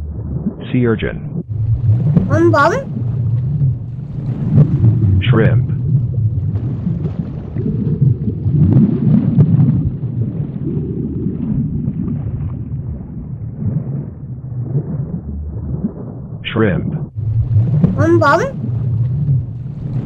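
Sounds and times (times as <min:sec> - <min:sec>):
underwater rumbling churn: 0:01.4 - 0:02.3, 0:02.9 - 0:16.4, 0:17.1 - 0:18.0, 0:18.6 - 0:20.0.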